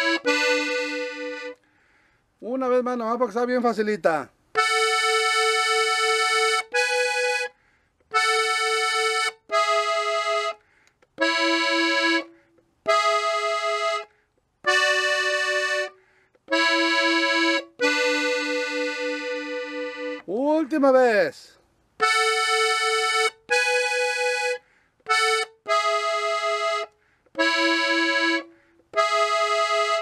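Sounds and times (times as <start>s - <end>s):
button accordion melody: 0.0s - 1.7s, 4.5s - 20.3s, 22.0s - 30.0s.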